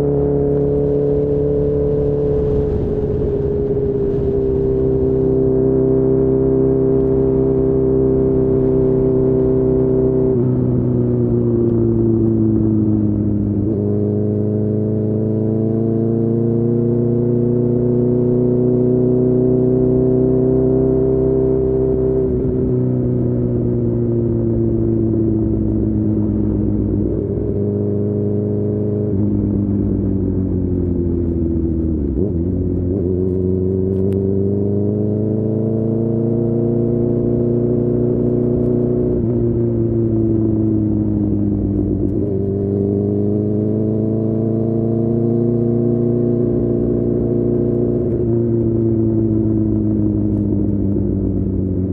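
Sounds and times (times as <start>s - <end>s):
motorcycle engine running: 0.0s - 15.7s, 16.3s - 51.9s.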